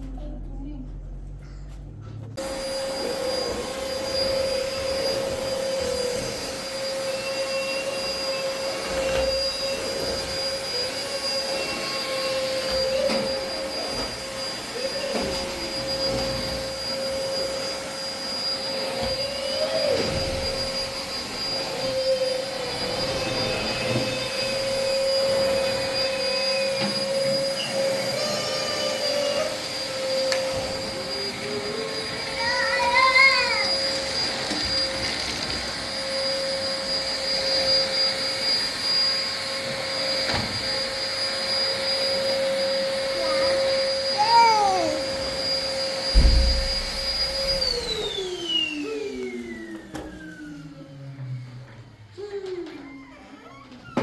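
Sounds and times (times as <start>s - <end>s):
motor whining: 2.4s - 54.0s.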